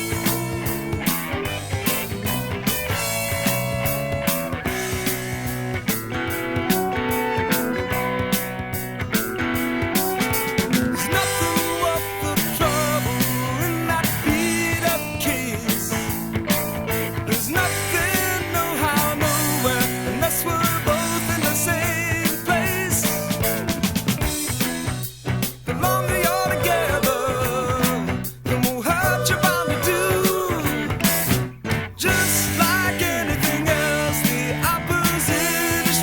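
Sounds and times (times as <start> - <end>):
guitar with bending notes: 0.0 - 36.0.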